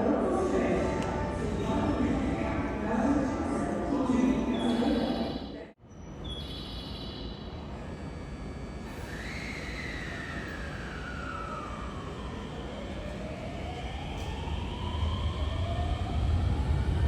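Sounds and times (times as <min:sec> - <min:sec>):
electric train rumble: 0:00.0 - 0:05.7, 0:07.5 - 0:17.0.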